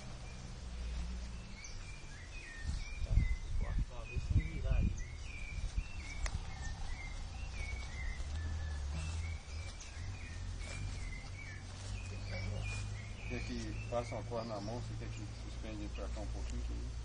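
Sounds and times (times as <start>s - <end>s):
bird chirping: 0.0s - 17.0s
steady low rumble: 0.0s - 17.0s.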